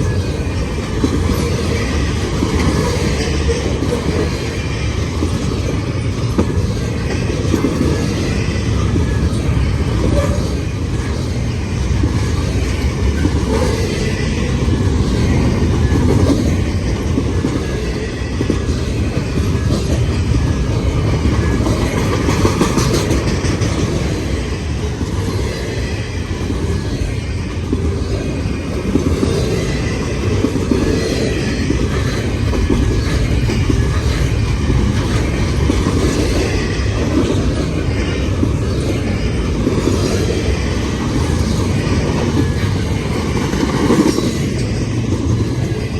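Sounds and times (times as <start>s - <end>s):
freight train wheels on rails: 0.0s - 45.9s.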